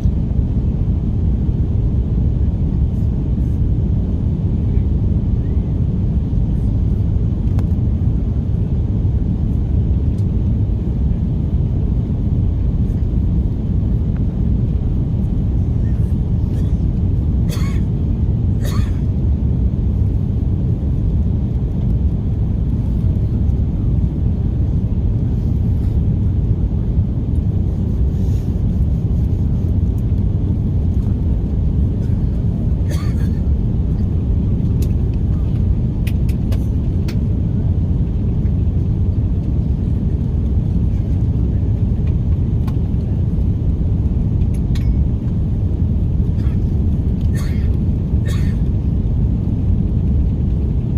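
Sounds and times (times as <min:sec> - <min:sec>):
aircraft cabin rumble: 0:00.0 - 0:50.9.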